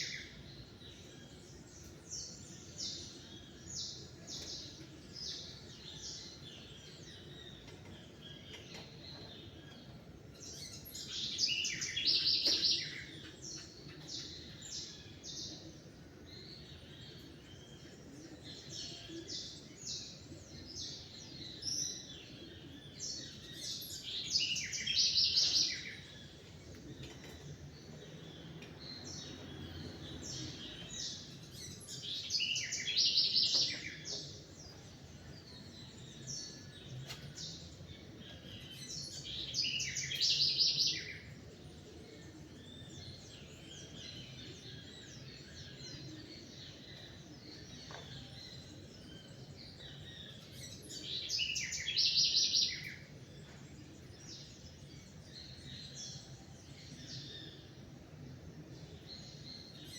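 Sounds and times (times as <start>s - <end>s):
bird singing rapid high song: 0.0s - 59.9s.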